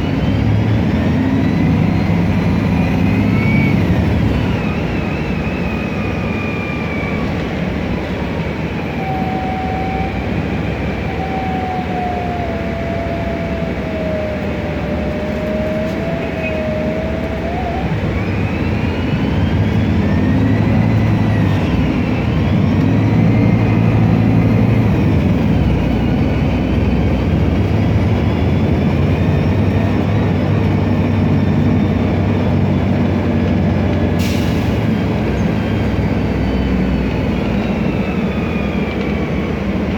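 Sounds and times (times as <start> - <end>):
bus engine rumbling: 0.0 - 39.9
gearbox whine: 0.0 - 39.9.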